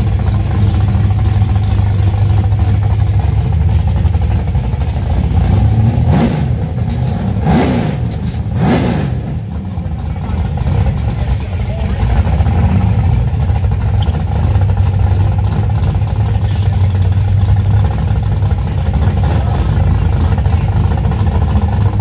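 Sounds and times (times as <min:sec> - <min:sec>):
car engines idling: 0:00.0 - 0:22.0.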